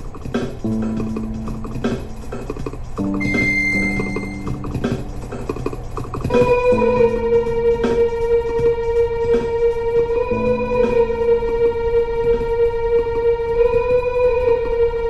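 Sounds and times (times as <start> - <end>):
experimental ambient music: 0.0 - 15.0.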